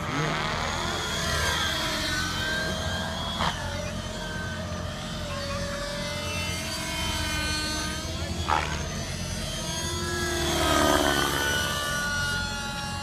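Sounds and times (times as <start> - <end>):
model helicopter motor whine: 0.0 - 13.0.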